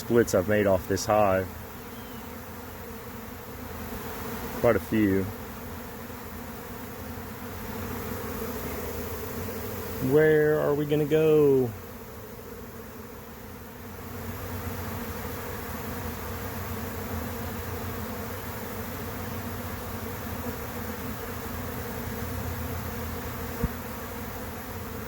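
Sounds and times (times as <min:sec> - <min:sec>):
bee swarm buzzing: 0:00.0 - 0:25.0.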